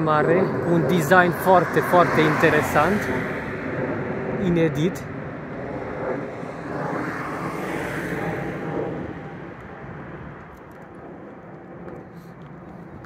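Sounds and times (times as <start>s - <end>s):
vehicle passing: 0.4s - 12.8s.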